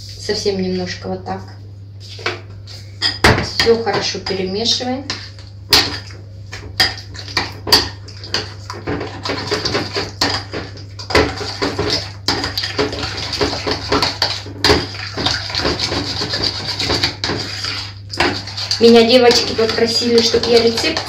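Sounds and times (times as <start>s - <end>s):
utensil stirring batter in bowl: 3.0s - 21.0s.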